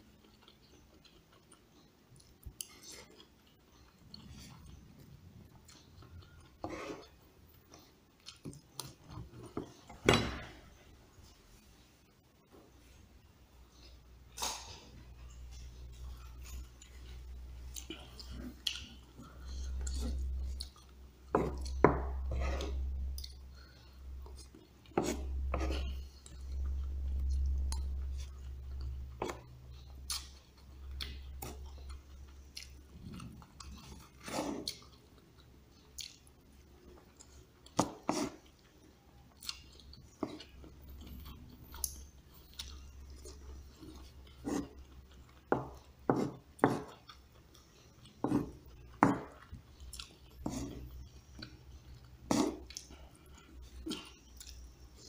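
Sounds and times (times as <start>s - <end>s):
person chewing and eating: 0.0s - 11.7s, 13.6s - 55.0s.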